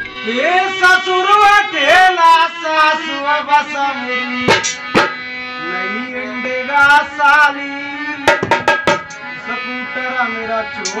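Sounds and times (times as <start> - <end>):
harmonium drone and melody: 0.0 - 11.0.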